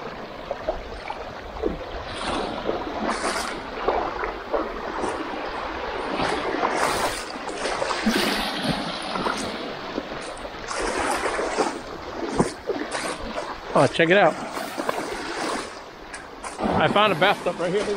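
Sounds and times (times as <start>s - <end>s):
shallow water splashing: 0.0s - 17.9s.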